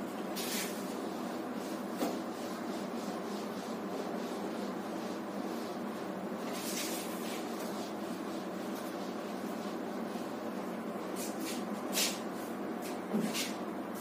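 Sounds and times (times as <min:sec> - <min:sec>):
duster wiping whiteboard: 0:00.3 - 0:14.0.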